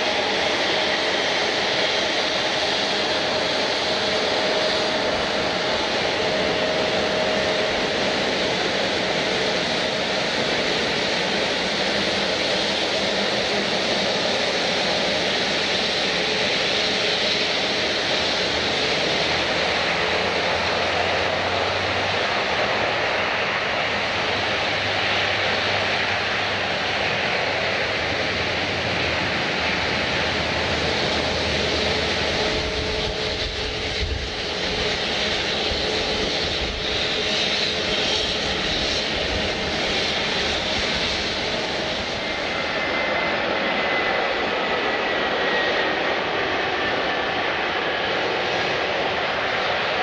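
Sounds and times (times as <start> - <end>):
airliner engines running: 0.0 - 50.0.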